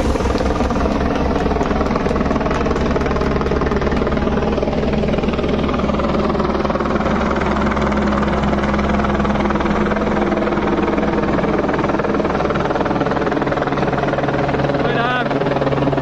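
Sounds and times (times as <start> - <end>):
loud engine drone: 0.0 - 16.0.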